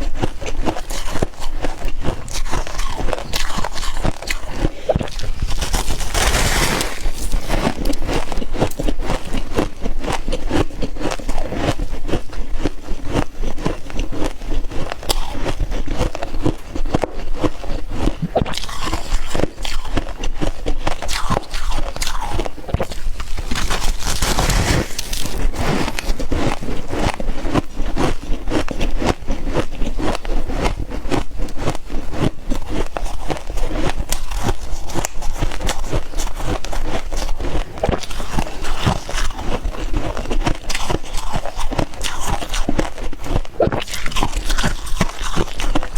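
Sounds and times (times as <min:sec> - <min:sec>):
frost being chewed with crunches: 0:00.0 - 0:45.9.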